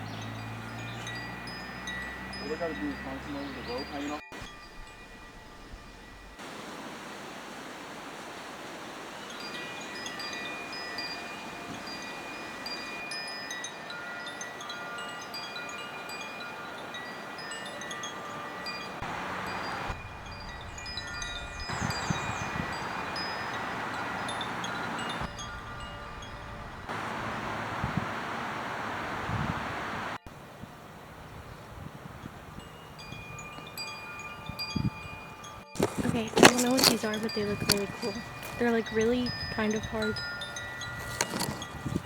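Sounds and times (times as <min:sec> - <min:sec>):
wind chimes ringing: 0:00.0 - 0:06.5, 0:09.1 - 0:27.9, 0:30.2 - 0:42.0
wind hiss: 0:00.0 - 0:42.0.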